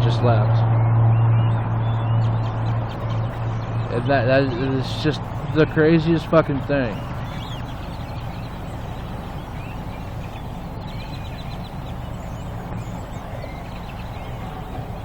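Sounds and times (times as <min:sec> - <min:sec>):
steady low rumble: 0:00.0 - 0:15.0
flock of birds chattering: 0:01.5 - 0:15.0.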